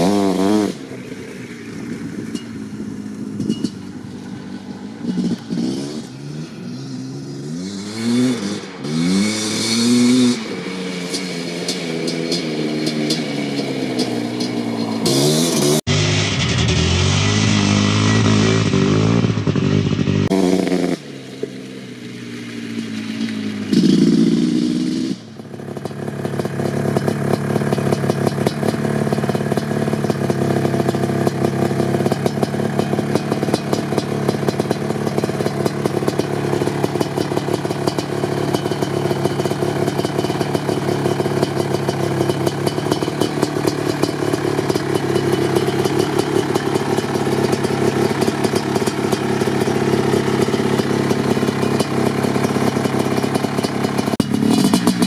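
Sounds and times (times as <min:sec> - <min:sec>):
quad bike engine idling: 0:00.0 - 0:55.0
quad bike engine revving: 0:00.0 - 0:55.0.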